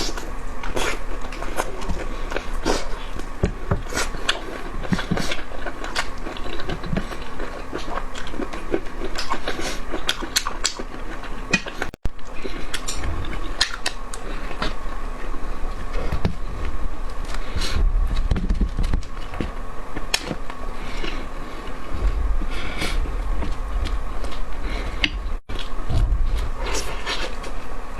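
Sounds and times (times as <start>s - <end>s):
chewing and biting food: 0.0s - 25.8s, 26.4s - 27.6s
faint steady hum: 0.0s - 27.9s.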